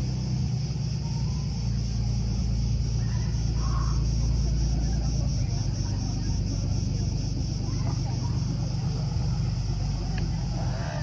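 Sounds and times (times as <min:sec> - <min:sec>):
cicadas buzzing: 0:00.0 - 0:11.0
motorboat engine drone: 0:00.0 - 0:11.0.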